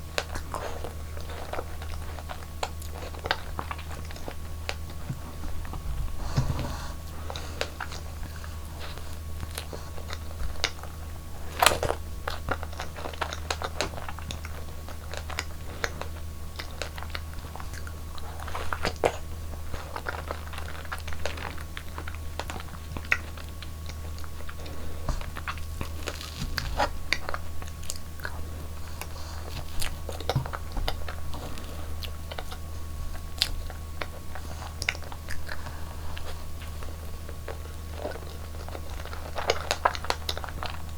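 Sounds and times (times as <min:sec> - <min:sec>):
crunchy chewing: 0:00.0 - 0:40.9
steady low hum: 0:00.0 - 0:40.9.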